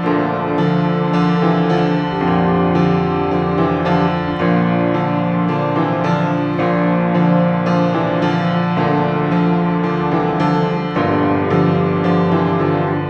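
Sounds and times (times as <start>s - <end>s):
instrumental keyboard music: 0.0s - 13.0s.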